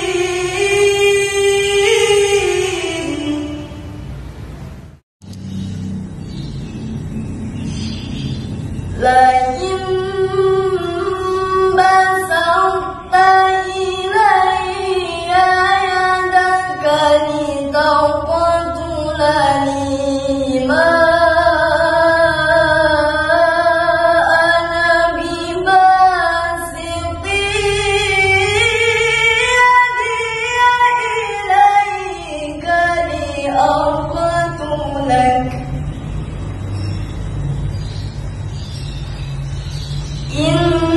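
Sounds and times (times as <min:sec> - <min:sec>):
woman reciting melodically: 0:00.0 - 0:04.1, 0:08.8 - 0:37.0, 0:39.3 - 0:40.9.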